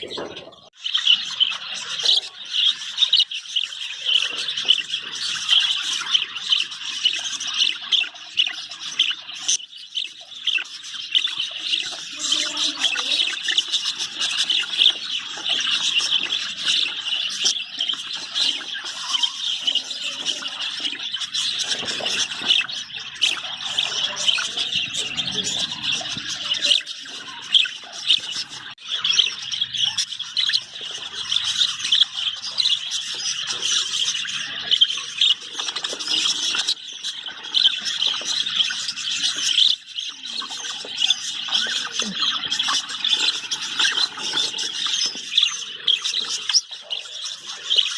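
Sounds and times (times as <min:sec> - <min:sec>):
budgerigars chirping and squealing: 0:00.0 - 0:47.9.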